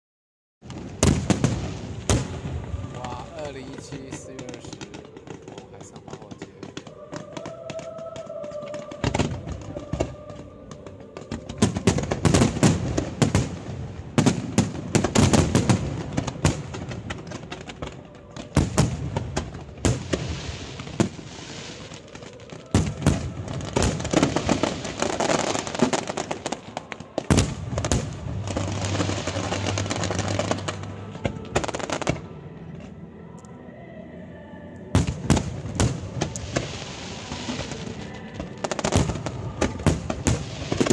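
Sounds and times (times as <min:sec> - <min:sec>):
fireworks bangs: 0:00.6 - 0:32.3, 0:34.9 - 0:40.9
fireworks crackling: 0:00.6 - 0:32.3, 0:35.0 - 0:40.9.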